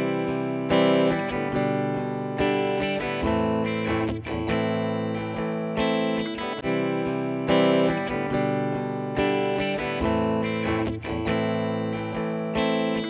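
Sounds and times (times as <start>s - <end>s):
electric guitar chords with effects: 0.0s - 13.0s.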